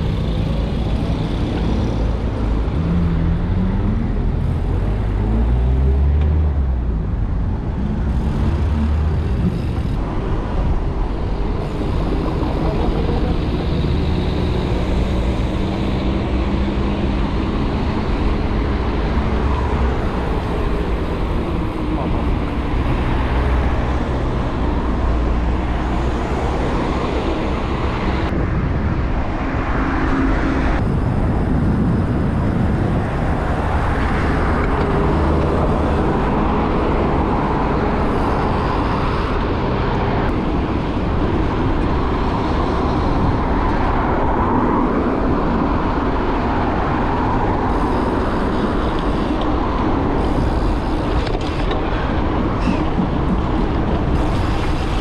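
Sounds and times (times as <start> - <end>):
car engines: 0.0 - 55.0.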